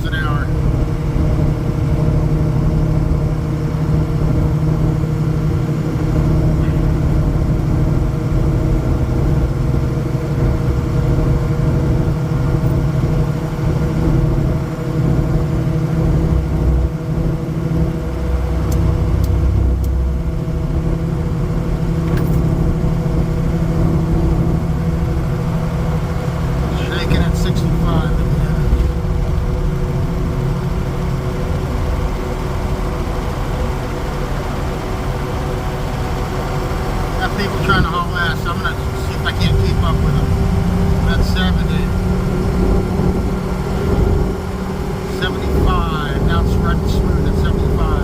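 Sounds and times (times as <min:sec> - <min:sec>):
diesel engine drone: 0:00.0 - 0:48.0
road and tyre rumble: 0:00.0 - 0:48.0.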